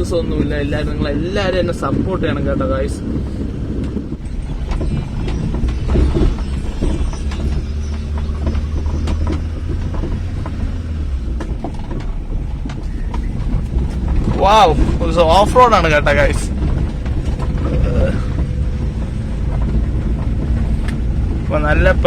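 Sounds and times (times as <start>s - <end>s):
engine and road drone: 0.0s - 22.0s
clicks and rattles: 1.7s - 22.0s.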